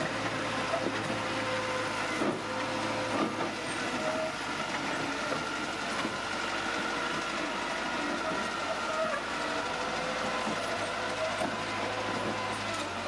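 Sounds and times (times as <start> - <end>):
bulldozer running: 0.0 - 13.0.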